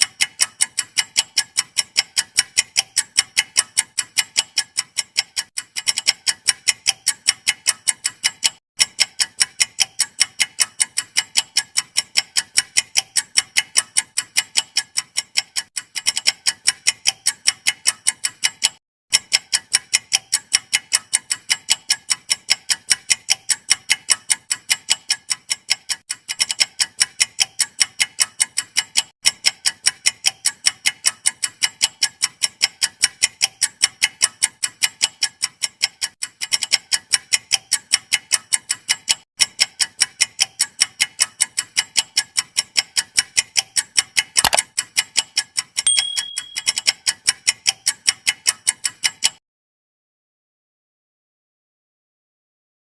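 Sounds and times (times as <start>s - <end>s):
clock ticking: 0.0s - 49.4s.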